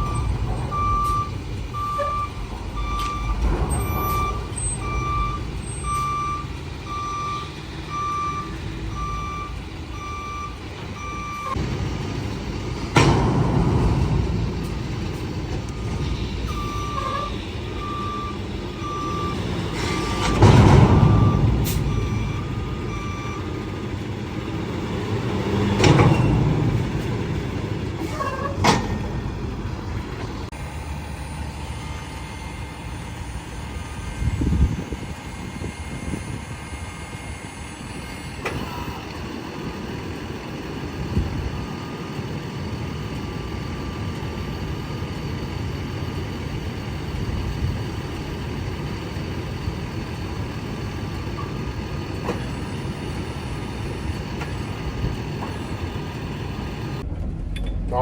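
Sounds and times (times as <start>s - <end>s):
truck engine running: 0.0s - 58.0s
truck reversing alarm beeping: 0.0s - 58.0s.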